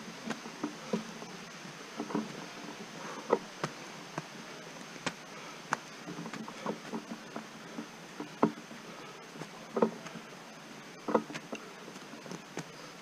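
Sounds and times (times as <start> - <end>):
faint high insect drone: 0.0 - 13.0
footsteps on dirt trail: 0.0 - 13.0.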